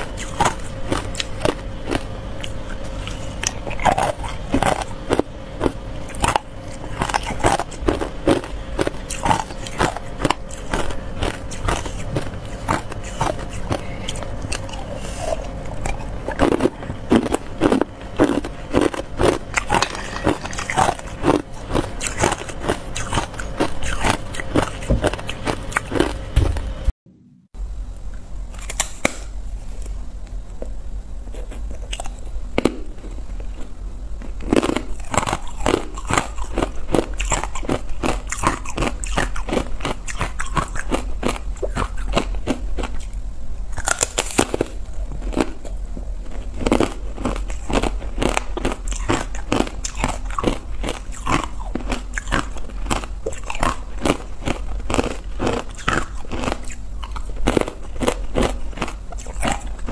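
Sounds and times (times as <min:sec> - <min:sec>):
ice cubes crunching in mouth: 0:00.0 - 0:26.2, 0:34.2 - 0:43.1, 0:43.8 - 0:59.9.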